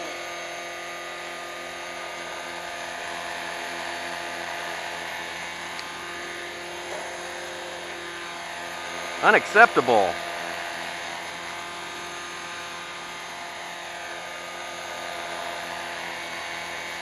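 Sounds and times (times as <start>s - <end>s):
rc helicopter rotor whine: 0.0s - 9.2s, 10.2s - 17.0s.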